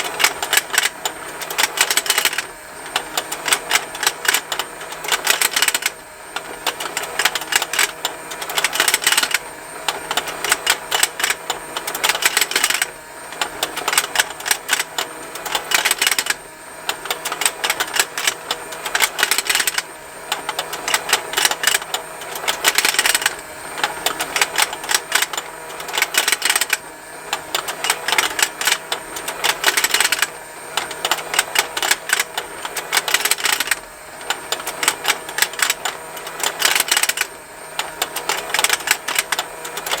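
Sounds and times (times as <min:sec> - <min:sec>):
rapid plastic ticking: 0:00.0 - 0:06.0, 0:06.6 - 0:09.4, 0:10.0 - 0:26.8, 0:27.4 - 0:40.0.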